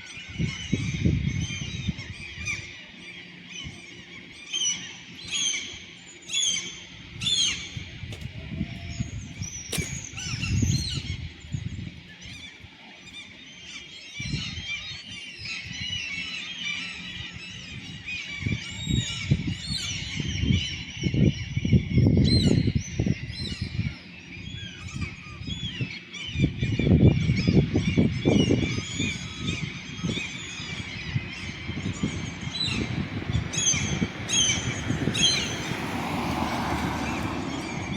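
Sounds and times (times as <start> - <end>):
gulls calling: 0.0 - 37.9.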